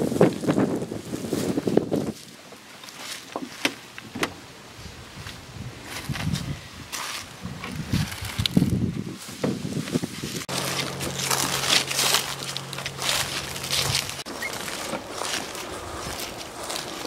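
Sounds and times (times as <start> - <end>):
footsteps crunching through dry leaves: 0.0 - 3.8, 5.1 - 17.0.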